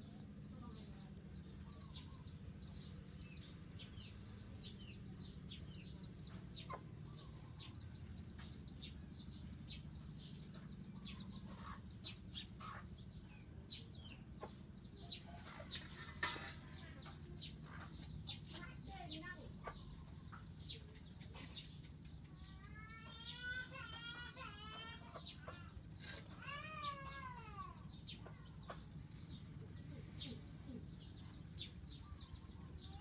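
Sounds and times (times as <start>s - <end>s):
chickens peeping and clucking: 0.0s - 33.0s
low steady hum: 0.0s - 33.0s.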